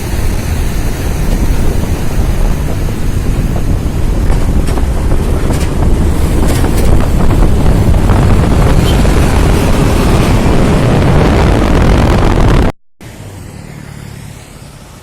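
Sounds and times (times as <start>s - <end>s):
heavy truck engine rumble: 0.0s - 15.0s
road noise: 0.0s - 15.0s.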